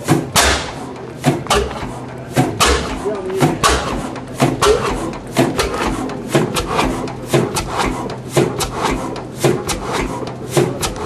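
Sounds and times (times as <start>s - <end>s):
diesel engine clattering: 0.0s - 11.0s.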